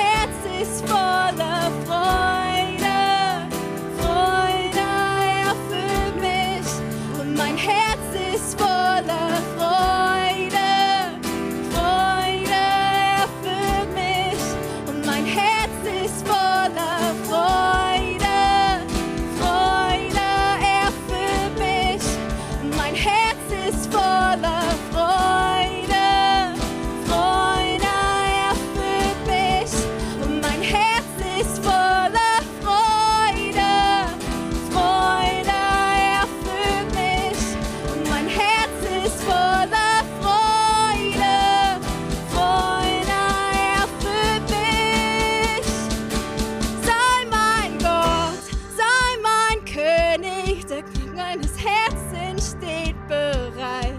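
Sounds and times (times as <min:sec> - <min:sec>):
worship band playing: 0:00.0 - 0:48.8
drum and bass beat: 0:08.6 - 0:52.3.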